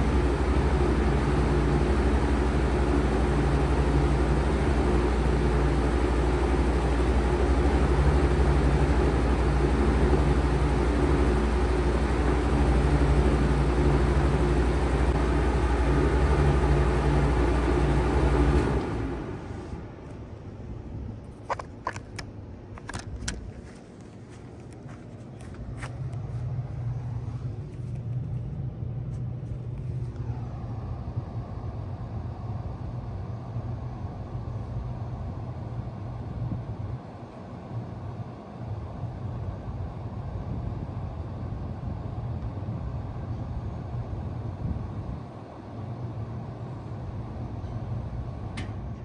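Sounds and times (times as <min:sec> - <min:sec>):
fan air rushing: 0:00.0 - 0:49.0
heat pump humming: 0:00.0 - 0:49.0.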